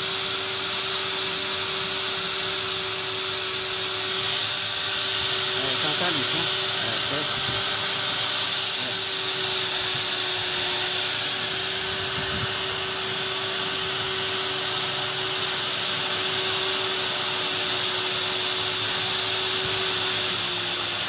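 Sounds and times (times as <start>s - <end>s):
die grinder grinding metal: 0.0s - 21.0s.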